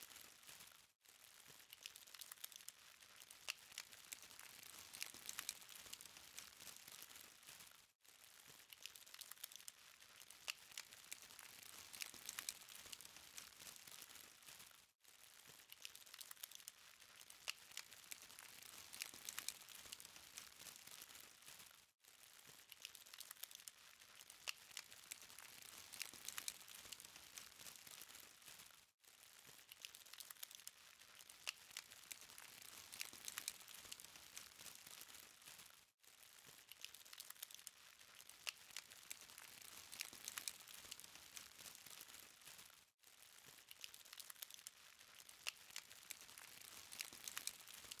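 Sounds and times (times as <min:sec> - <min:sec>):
charcoal fire crackling: 0:00.0 - 0:48.0.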